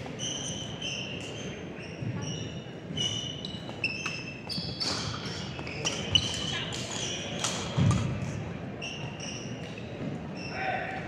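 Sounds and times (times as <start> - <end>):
shoes squeaking on floor: 0.0 - 7.4, 8.8 - 10.6
low rumble of large hall: 0.0 - 11.0.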